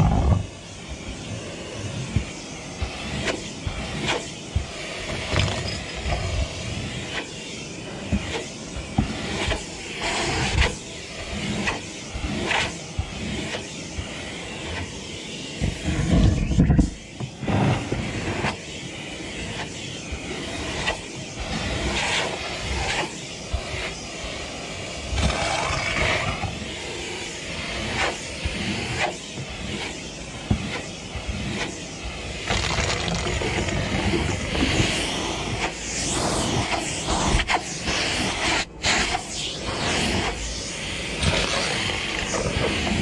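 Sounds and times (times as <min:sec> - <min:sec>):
vacuum cleaner suction: 0:00.0 - 0:43.0.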